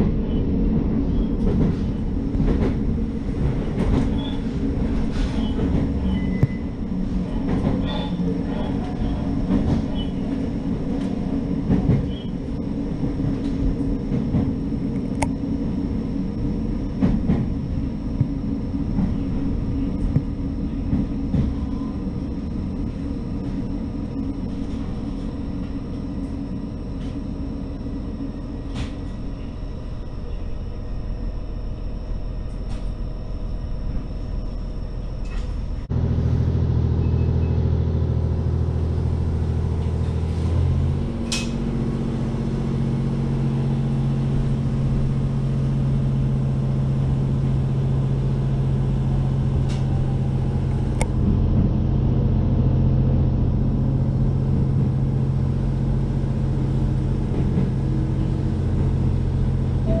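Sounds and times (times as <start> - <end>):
diesel railcar engine drone: 0.0 - 60.0.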